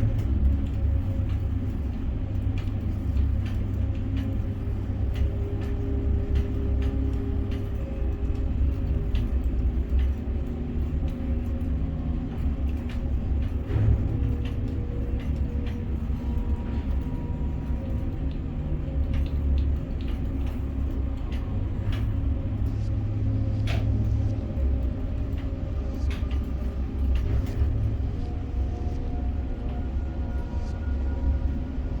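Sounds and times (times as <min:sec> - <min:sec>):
crane machinery rumble and hum: 0:00.0 - 0:32.0.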